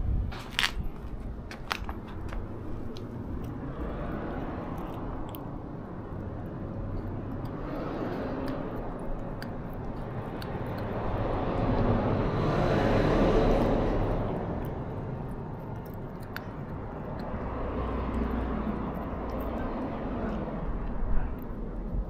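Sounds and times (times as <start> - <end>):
passing vehicle engine and tyres: 0.0 - 22.0
cat chewing crunchily: 1.7 - 22.0.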